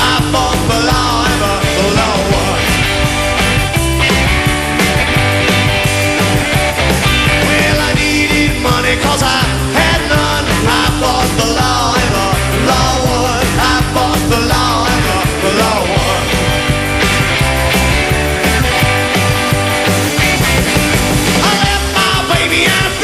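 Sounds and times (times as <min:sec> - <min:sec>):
bending guitar lead line: 0:00.0 - 0:23.0
rockabilly band playing: 0:00.0 - 0:23.0.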